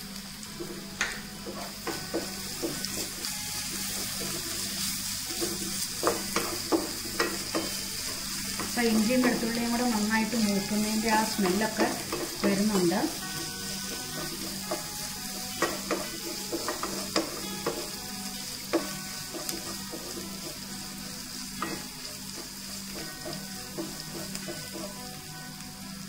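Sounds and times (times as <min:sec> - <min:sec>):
onions sizzling in oil: 0:00.0 - 0:26.0
wooden spatula scraping a pan: 0:00.6 - 0:18.0, 0:18.8 - 0:21.0, 0:21.6 - 0:25.1.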